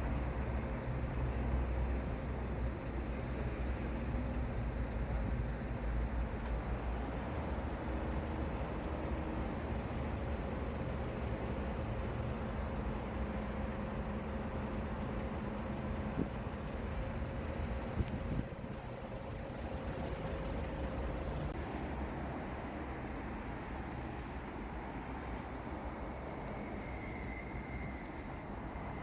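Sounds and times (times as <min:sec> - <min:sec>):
distant road traffic rumble: 0:00.0 - 0:29.0.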